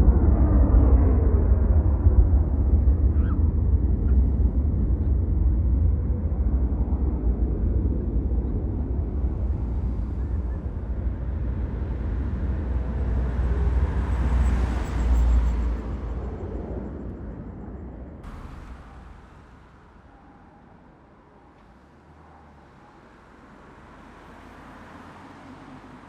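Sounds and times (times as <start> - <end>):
jet engines rumbling: 0.0 - 23.2.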